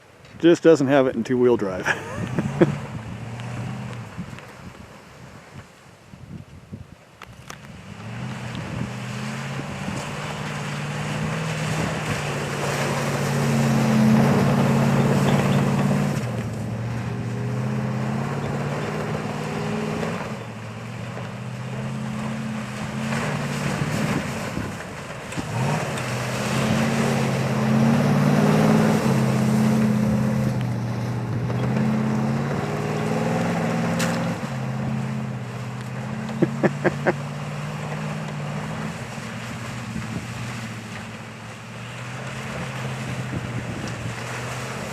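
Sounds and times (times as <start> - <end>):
truck engine revving: 1.8 - 4.5, 7.8 - 44.9
tyre and wind noise: 2.1 - 44.9.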